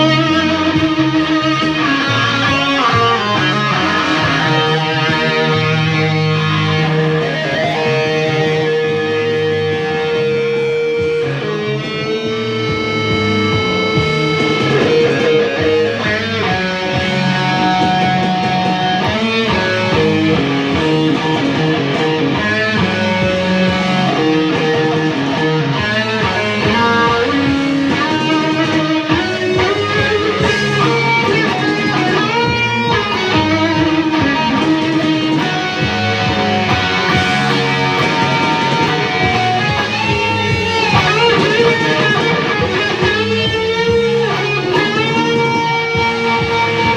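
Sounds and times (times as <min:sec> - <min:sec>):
electric guitar playing: 0:00.0 - 0:46.9.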